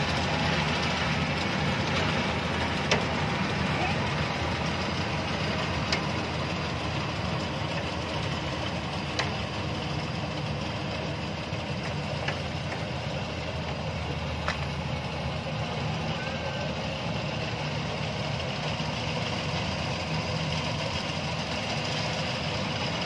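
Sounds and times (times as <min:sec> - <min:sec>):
combine harvester engine running: 0:00.0 - 0:23.0.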